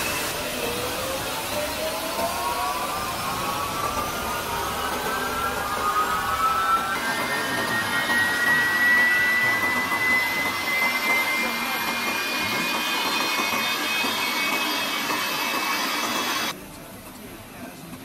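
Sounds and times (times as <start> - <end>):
jet engine spooling up: 0.0 - 16.6.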